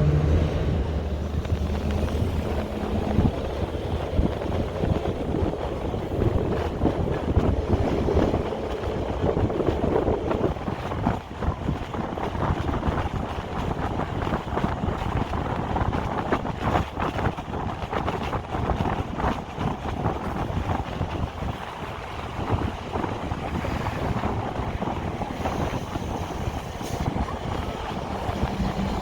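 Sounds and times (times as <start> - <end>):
vehicle engine hum: 0.0 - 29.0
wind on microphone: 0.0 - 29.0.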